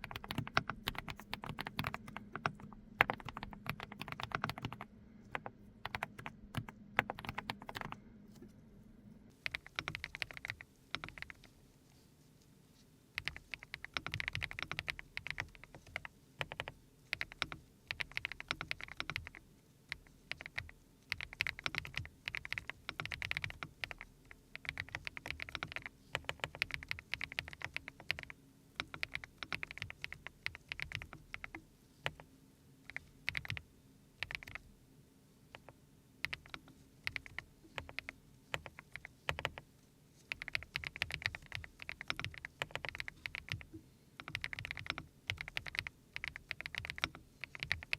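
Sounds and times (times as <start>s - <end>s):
mechanical keyboard typing: 0.0s - 8.0s, 9.4s - 11.5s, 13.2s - 32.3s, 32.9s - 33.6s, 34.2s - 34.6s, 35.5s - 39.6s, 40.3s - 47.9s.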